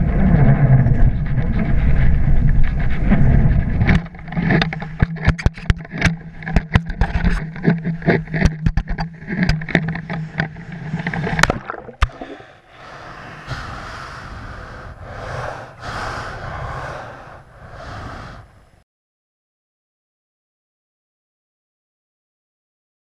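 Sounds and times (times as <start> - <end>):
wind rushing over camera: 0.0 - 18.8.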